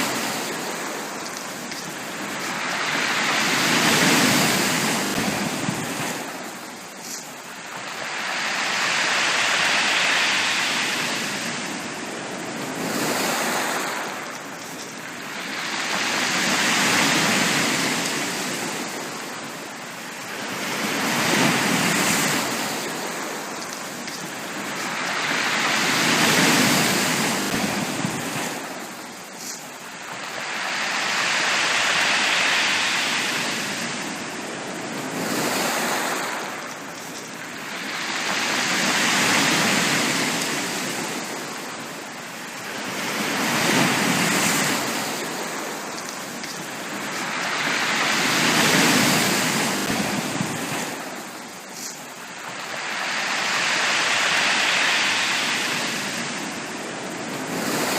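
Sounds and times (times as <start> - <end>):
sea waves breaking on a beach: 0.0 - 57.9.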